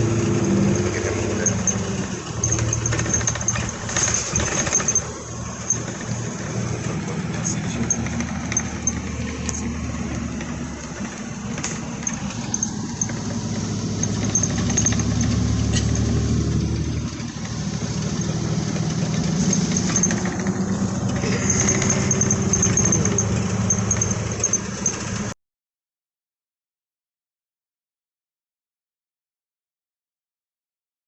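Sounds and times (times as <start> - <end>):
bus engine and road noise: 0.0 - 25.4.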